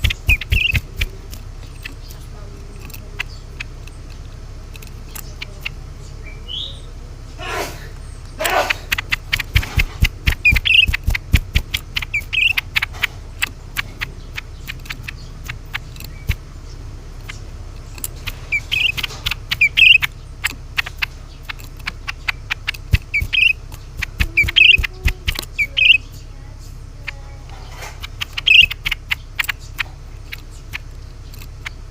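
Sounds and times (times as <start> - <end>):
bird clicking calls: 0.0 - 6.9, 7.9 - 31.9
bird high chirps: 0.0 - 31.9.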